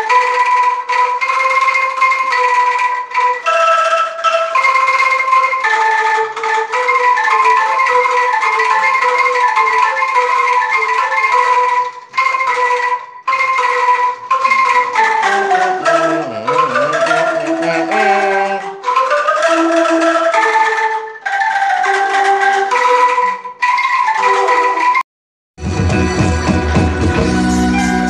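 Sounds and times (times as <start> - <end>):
mallet percussion melody: 0.0 - 25.0
wavering gliding melodic line: 0.0 - 25.0.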